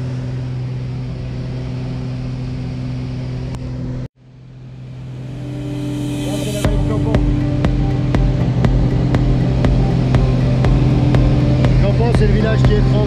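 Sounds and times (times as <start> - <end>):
small plane engine drone: 0.0 - 13.0.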